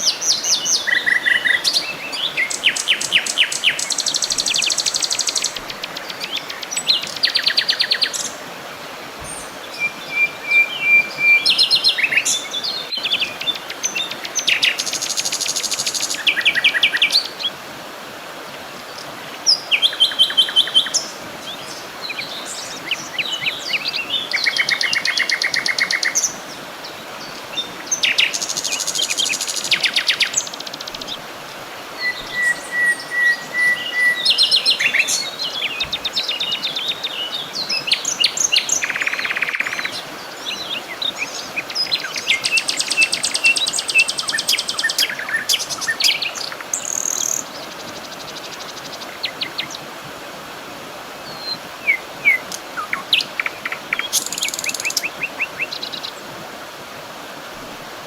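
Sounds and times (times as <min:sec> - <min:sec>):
songbirds singing: 0:00.0 - 0:17.6, 0:18.4 - 0:50.0, 0:51.1 - 0:56.5
steady background hiss: 0:00.0 - 0:58.0.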